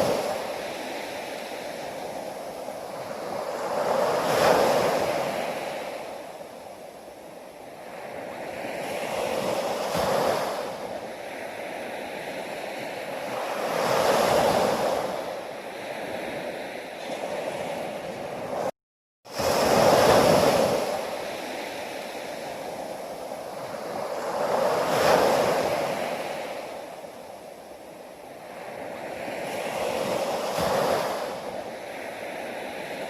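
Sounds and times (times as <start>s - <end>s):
ocean waves crashing: 0.0s - 18.7s, 19.3s - 33.0s.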